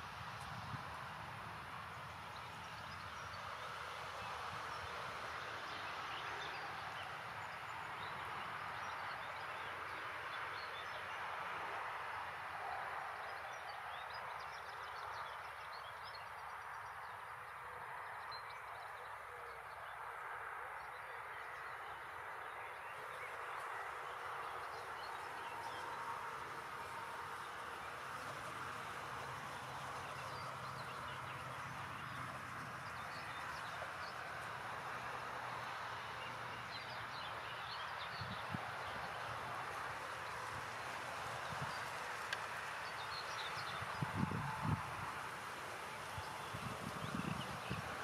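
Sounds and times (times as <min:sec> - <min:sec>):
outdoor background hiss: 0:00.0 - 0:48.0.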